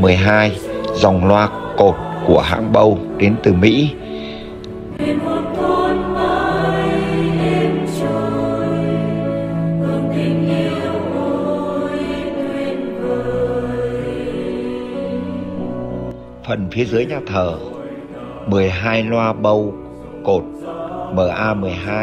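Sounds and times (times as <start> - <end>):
choir singing held notes: 0.0 - 22.0.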